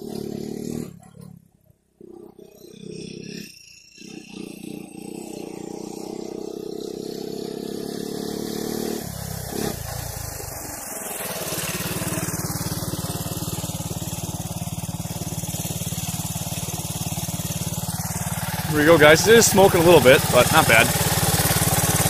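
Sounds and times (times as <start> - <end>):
three-wheeler engine running: 0.0 - 22.0.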